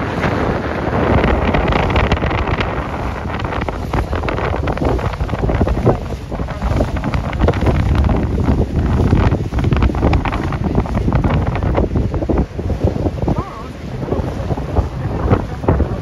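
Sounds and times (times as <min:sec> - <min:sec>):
water rushing past hull: 0:00.0 - 0:16.0
wind buffeting microphone: 0:00.0 - 0:16.0.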